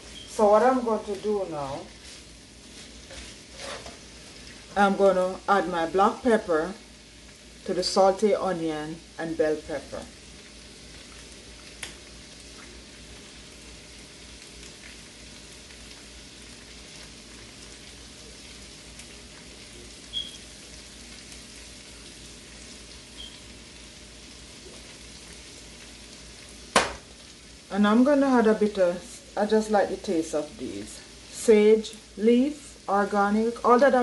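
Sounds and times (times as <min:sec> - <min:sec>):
vegetables sizzling in a pan: 0:00.0 - 0:34.0.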